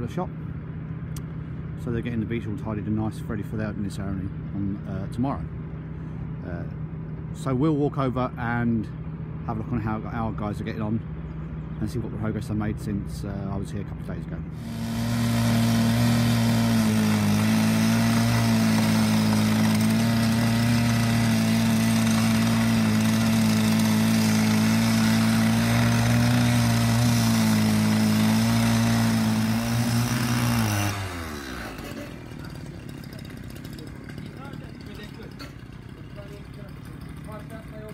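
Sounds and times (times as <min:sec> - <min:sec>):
construction machine engine running: 0:00.0 - 0:37.9.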